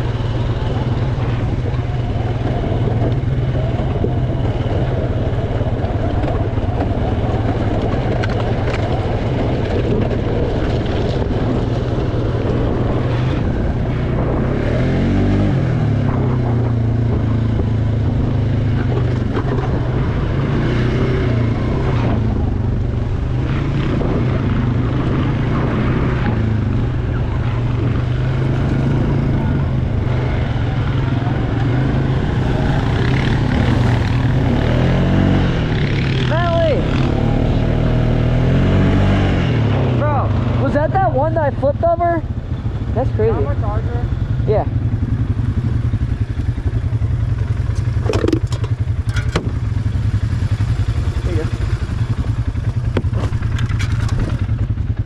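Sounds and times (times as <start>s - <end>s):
atv engine running: 0.0s - 55.0s
continuous rushing noise: 0.0s - 55.0s.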